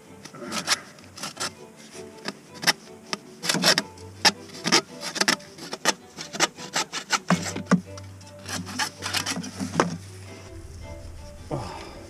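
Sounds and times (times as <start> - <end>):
hand tool rasping on plastic pipe: 0.2 - 10.0.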